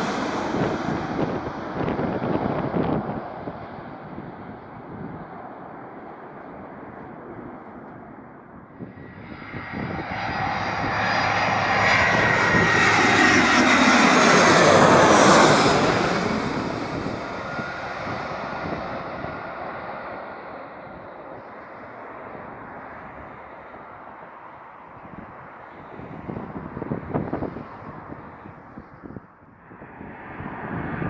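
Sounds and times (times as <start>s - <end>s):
jet airliner passing overhead: 0.0s - 31.0s.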